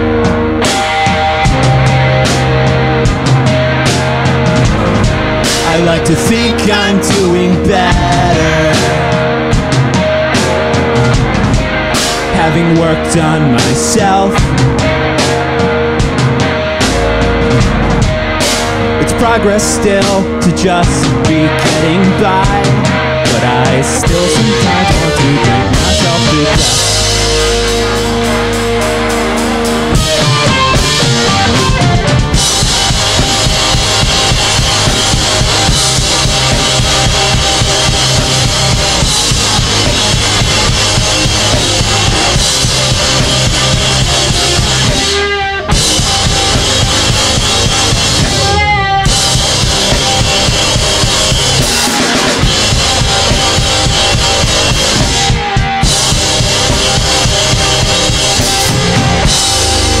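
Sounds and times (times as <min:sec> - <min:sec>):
drum kit: 0:00.0 - 1:00.0
rock band playing: 0:00.0 - 1:00.0.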